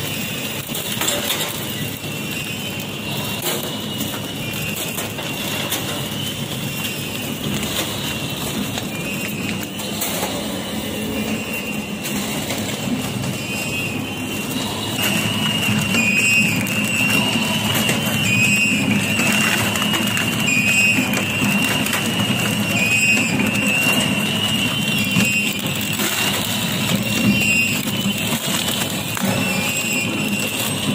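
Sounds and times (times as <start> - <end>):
high steady whine: 0.0 - 30.9
packing machine clattering: 0.0 - 30.9.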